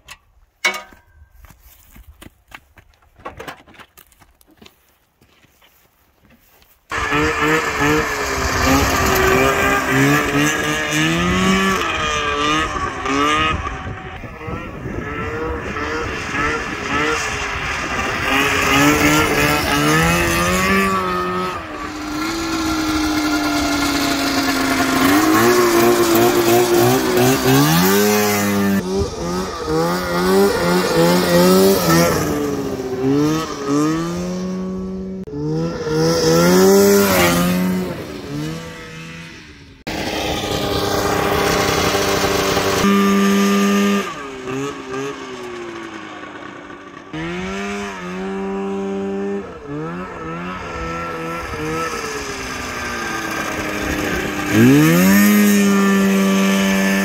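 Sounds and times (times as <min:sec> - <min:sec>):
lawn mower engine revving: 0:06.9 - 0:57.0.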